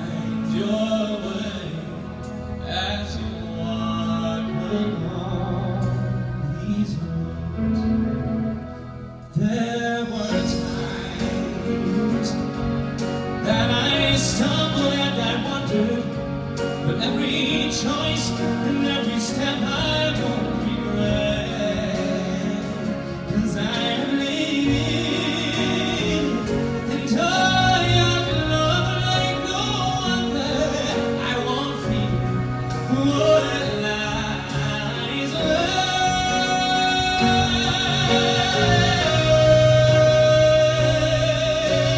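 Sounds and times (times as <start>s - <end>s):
grand piano: 0.0s - 41.9s
man singing: 0.0s - 41.9s
string quartet: 0.0s - 41.9s.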